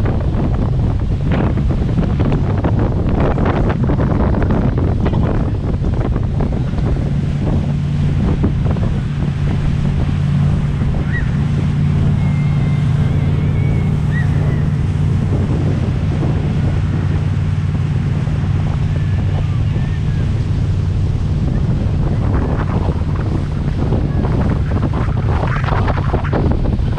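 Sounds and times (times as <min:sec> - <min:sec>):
motorboat engine drone: 0:00.0 - 0:26.9
rushing water: 0:00.0 - 0:26.9
wind buffeting microphone: 0:00.0 - 0:26.9.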